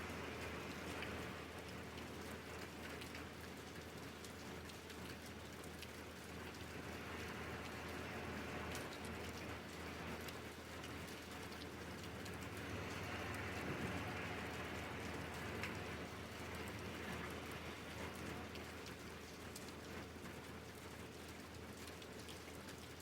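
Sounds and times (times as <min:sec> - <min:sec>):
raindrop ticks: 0:00.4 - 0:08.0, 0:08.6 - 0:23.0.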